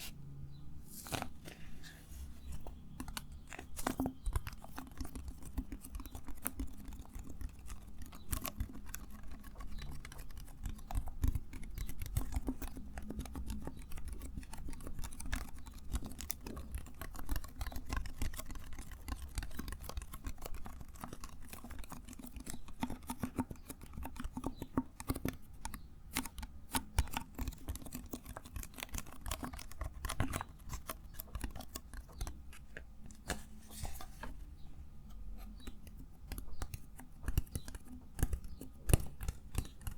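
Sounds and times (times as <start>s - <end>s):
small clicks and scratches: 1.0s - 39.9s.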